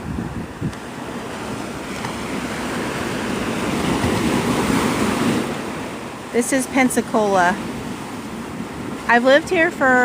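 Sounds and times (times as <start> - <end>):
surf waves washing onto beach: 0.0 - 10.0
wind on microphone: 0.0 - 10.0.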